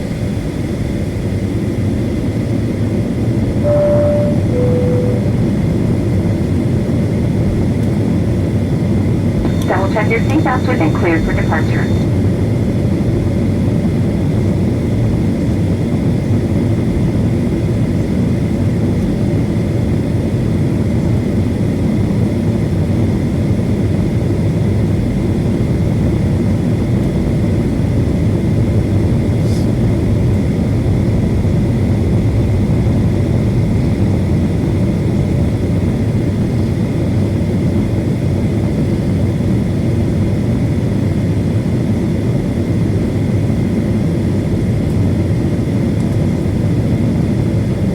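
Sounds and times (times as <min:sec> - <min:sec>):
jet engines at takeoff thrust: 0:00.0 - 0:03.8, 0:05.5 - 0:47.9.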